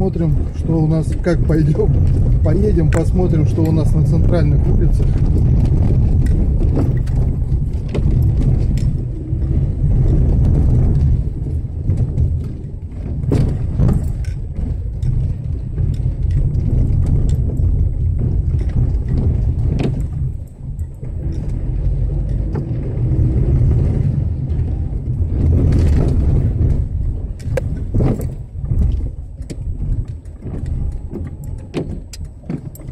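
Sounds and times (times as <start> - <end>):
car knocks and rattles: 0.0 - 32.9
engine and tyre rumble: 0.0 - 32.9.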